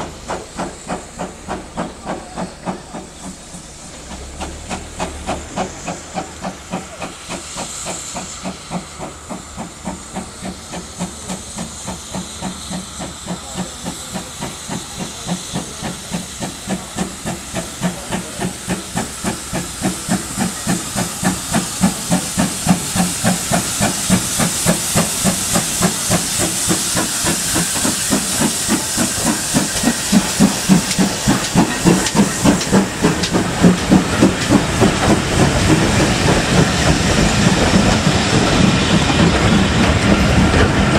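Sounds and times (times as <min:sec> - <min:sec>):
steam hissing: 0:00.0 - 0:40.9
steam locomotive exhaust beats: 0:00.0 - 0:40.9.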